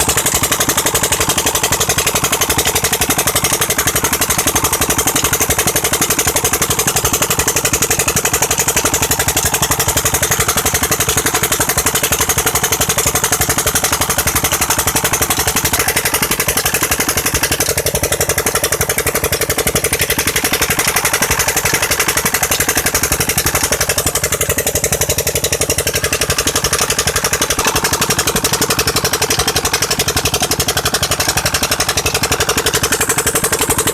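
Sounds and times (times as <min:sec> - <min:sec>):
pump engine running steadily: 0:00.0 - 0:33.9.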